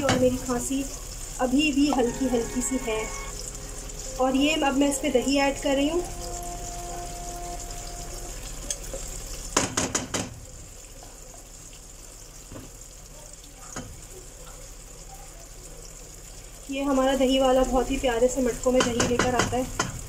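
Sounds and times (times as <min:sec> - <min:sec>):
chicken sizzling in a pan: 0:00.0 - 0:20.0.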